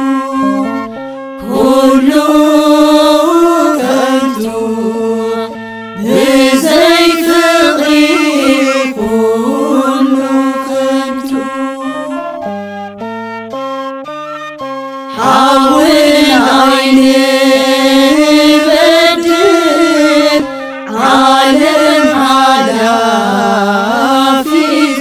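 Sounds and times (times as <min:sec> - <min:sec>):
choir singing a hymn: 0:00.0 - 0:12.3, 0:15.1 - 0:25.0
held instrumental notes: 0:00.0 - 0:25.0.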